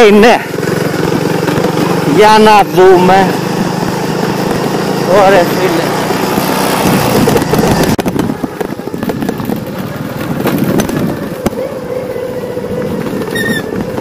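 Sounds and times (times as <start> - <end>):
small motorbike engine: 0.0 - 14.0
wind and tyre rumble: 0.0 - 14.0.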